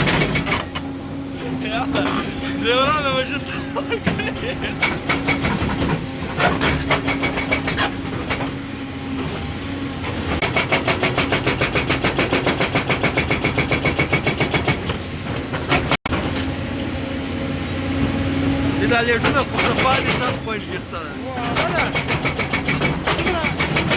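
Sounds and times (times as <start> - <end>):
hydraulic breaker hammering: 0.0 - 8.6, 10.2 - 17.0, 18.8 - 20.8, 21.4 - 23.9
diesel engine running: 0.0 - 10.5, 15.0 - 23.9.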